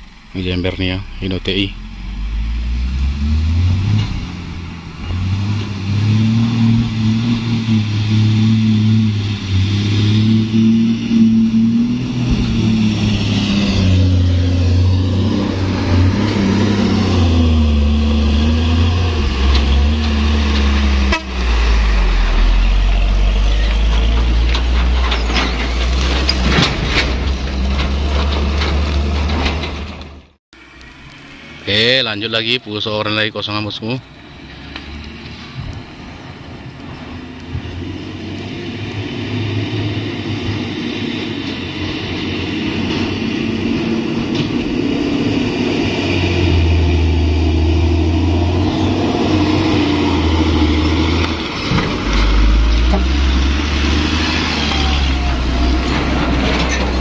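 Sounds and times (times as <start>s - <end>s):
truck diesel engine labouring: 0.0s - 57.0s.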